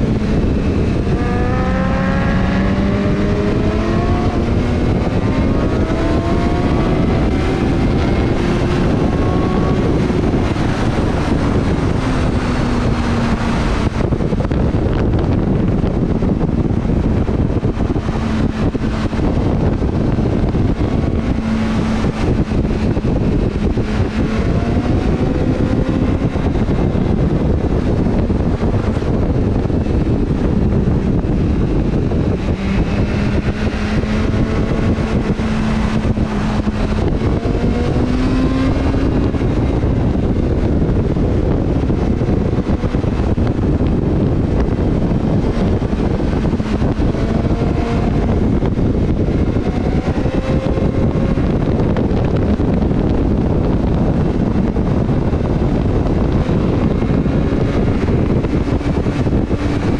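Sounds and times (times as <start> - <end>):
motorcycle engine revving: 0.0 - 59.9
wind rush: 0.0 - 59.9.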